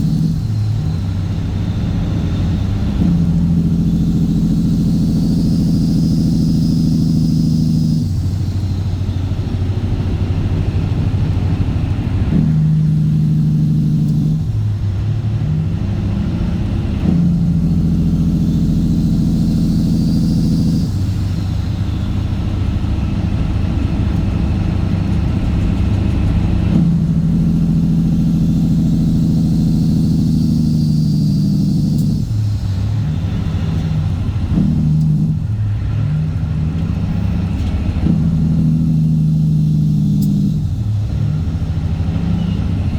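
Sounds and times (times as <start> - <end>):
loud diesel truck exhaust: 0.0 - 42.9.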